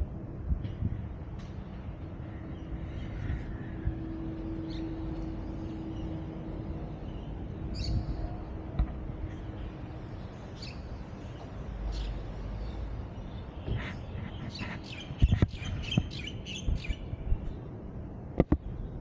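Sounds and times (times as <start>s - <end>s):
faint steady hum: 0.0s - 19.0s
low background rumble: 0.0s - 19.0s.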